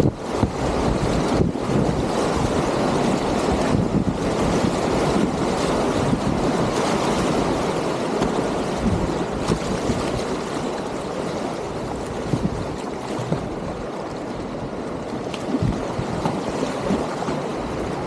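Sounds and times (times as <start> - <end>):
water splashes: 0.0 - 18.0
whitewater rapids rushing: 0.0 - 18.0.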